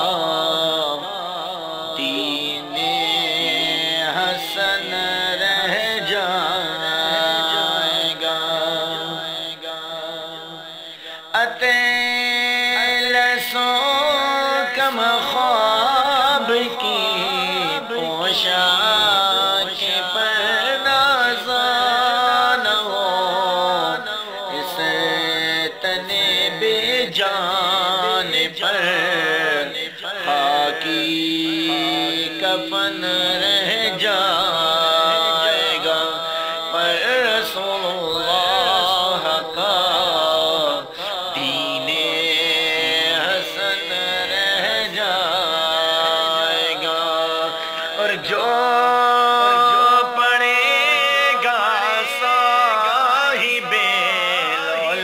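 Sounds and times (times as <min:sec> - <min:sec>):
person singing ornamented melody: 0:00.0 - 0:10.2, 0:11.3 - 0:55.0.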